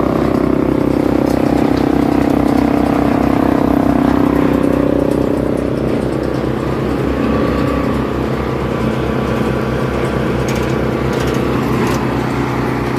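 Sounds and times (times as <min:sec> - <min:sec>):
wood chipper running: 0:00.0 - 0:12.9.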